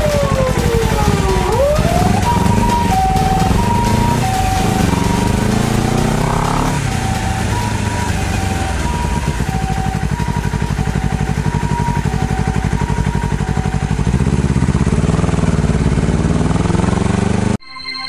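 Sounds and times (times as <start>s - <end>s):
ambulance siren two-tone: 0.0s - 16.6s
motorcycle engine running: 0.0s - 17.6s.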